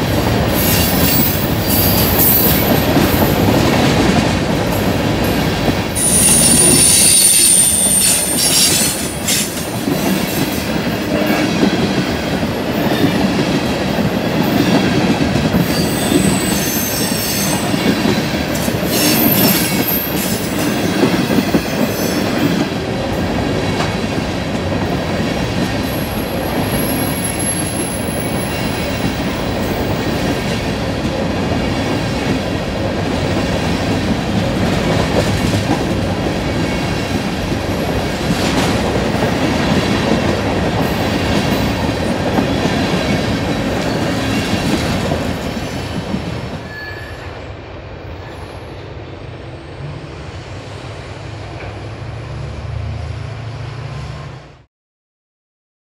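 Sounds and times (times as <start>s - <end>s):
freight train clattering past: 0.0s - 54.7s.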